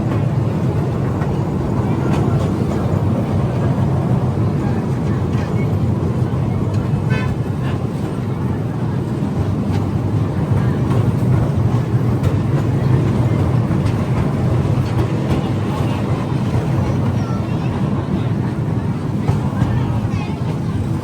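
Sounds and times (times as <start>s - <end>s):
small train rumbling: 0.0s - 21.0s.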